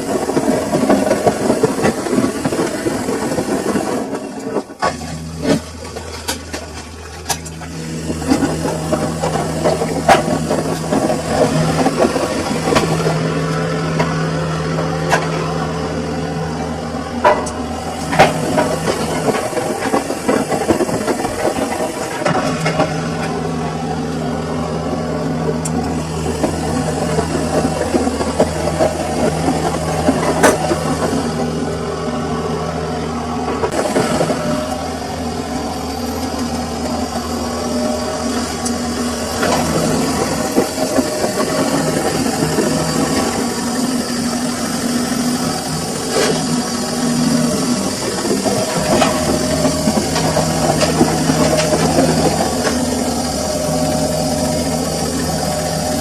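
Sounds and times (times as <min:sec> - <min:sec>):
washing machine motor hum: 0:05.0 - 0:56.0.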